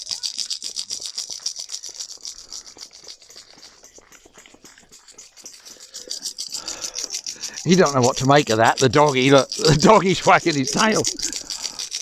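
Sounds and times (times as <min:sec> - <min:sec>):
maraca shaker rattling: 0:00.0 - 0:12.0.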